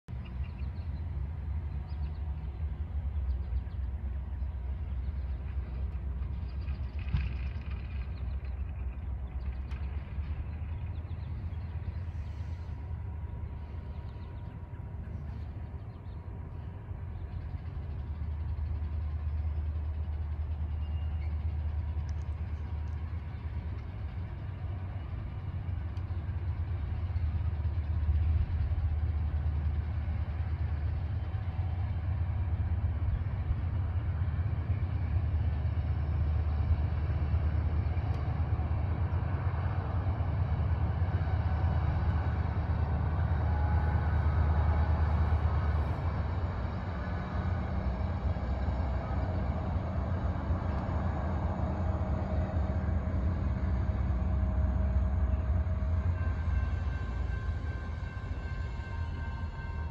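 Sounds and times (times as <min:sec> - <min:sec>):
freight train locomotive rumble: 0:00.0 - 0:59.9.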